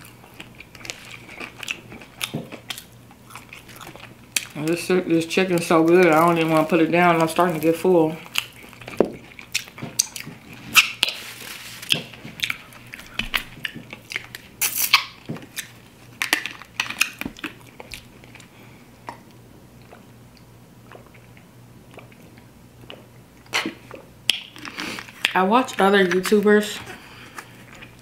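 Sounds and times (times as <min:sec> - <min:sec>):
chewing: 0:00.0 - 0:25.4.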